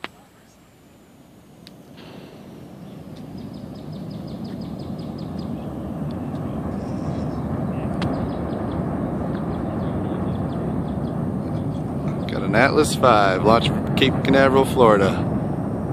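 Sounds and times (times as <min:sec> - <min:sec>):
distant rocket engine rumble: 0:00.0 - 0:15.9.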